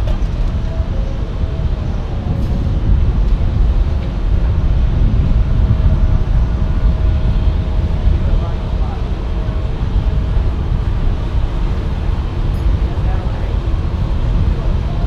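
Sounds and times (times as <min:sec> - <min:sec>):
faint steady whine: 0:00.0 - 0:15.0
jet engines rumbling: 0:00.0 - 0:15.0.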